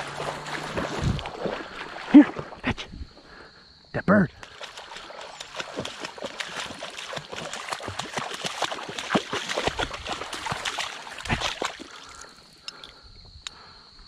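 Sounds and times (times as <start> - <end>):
water splashing from wading: 0.0 - 3.0, 4.4 - 12.9.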